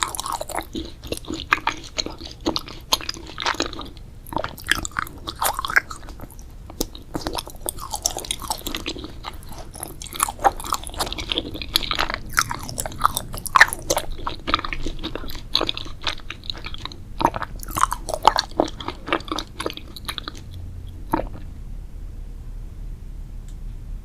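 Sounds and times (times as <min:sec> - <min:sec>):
chewing crunchy food: 0:00.0 - 0:21.5.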